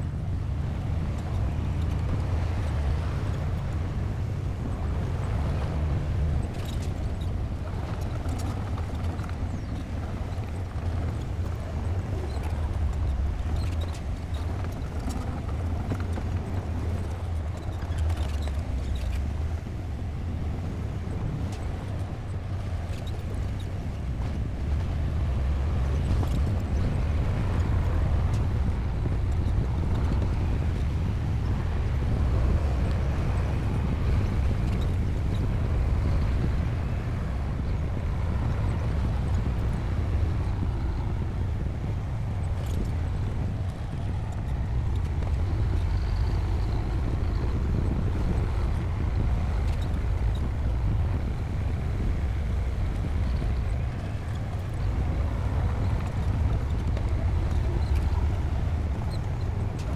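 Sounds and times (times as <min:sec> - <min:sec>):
bulldozer diesel engine rumbling: 0:00.2 - 0:59.9.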